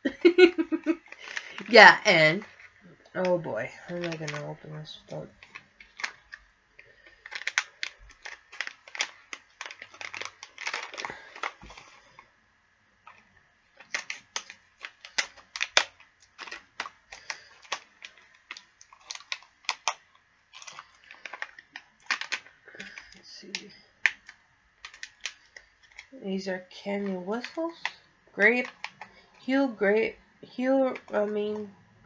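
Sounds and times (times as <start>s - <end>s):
plastic wrapper crinkling: 0.2s - 12.4s, 13.0s - 26.2s, 26.8s - 31.7s.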